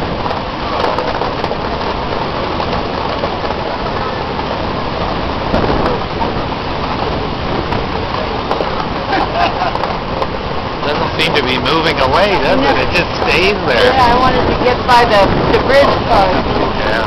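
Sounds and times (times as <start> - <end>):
wind buffeting microphone: 0.0 - 17.0
faint voices: 0.1 - 17.0.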